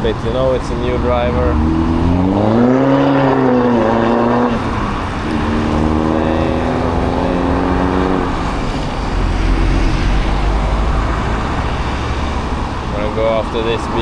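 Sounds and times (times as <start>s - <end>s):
deep rumble of passing vehicle: 0.0s - 14.0s
road traffic: 0.0s - 14.0s
wind rushing past: 0.6s - 13.0s.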